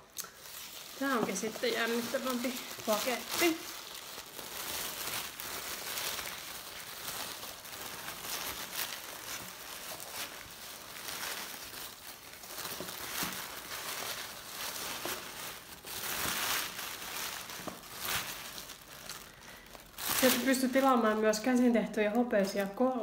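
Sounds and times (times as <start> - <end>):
packaging crinkling and rustling: 0.0 - 23.0.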